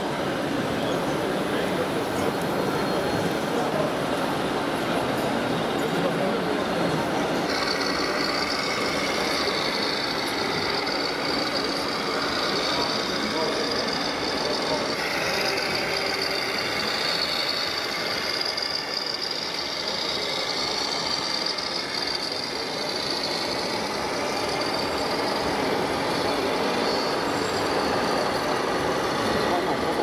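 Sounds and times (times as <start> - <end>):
constant background din: 0.0 - 30.0
simulated diesel truck engine: 3.6 - 30.0.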